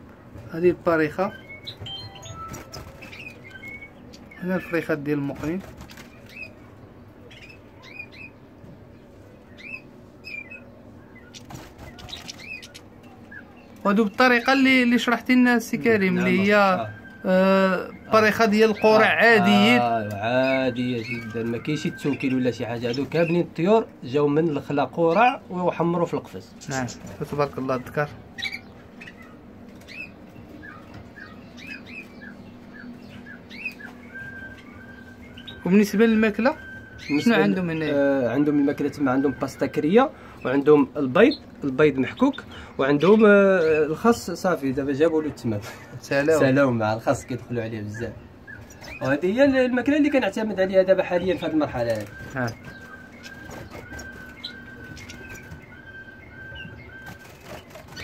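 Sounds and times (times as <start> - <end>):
goldfinches chirping: 0.6 - 58.0.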